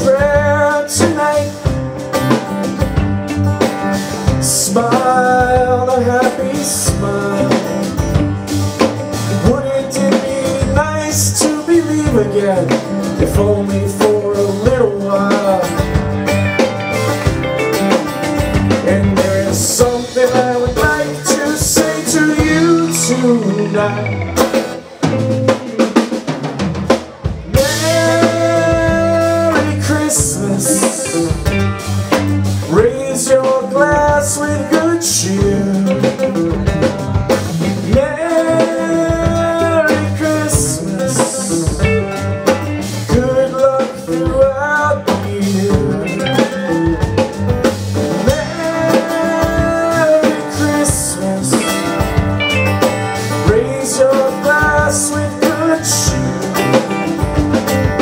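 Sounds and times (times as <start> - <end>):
bending lead melody: 0.0 - 58.0
drum kit: 0.0 - 58.0
live band playing: 0.0 - 58.0.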